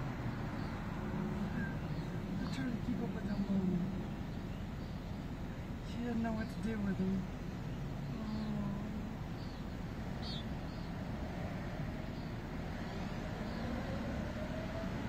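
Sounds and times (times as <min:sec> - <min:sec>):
road traffic passing cars: 0:00.0 - 0:15.0.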